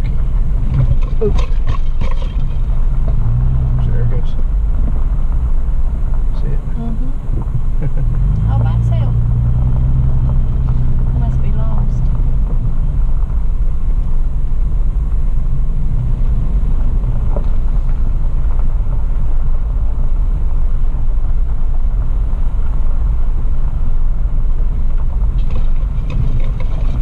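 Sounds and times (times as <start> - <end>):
engine and tyres on dirt: 0.0 - 27.0.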